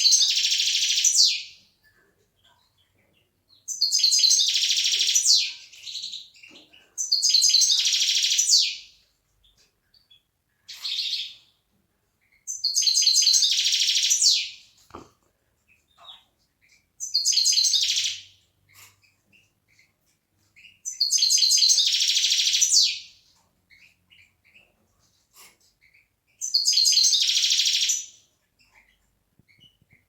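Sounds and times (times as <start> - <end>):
bird twittering song: 0.0 - 1.6, 2.4 - 11.6, 12.2 - 24.8, 25.7 - 30.0.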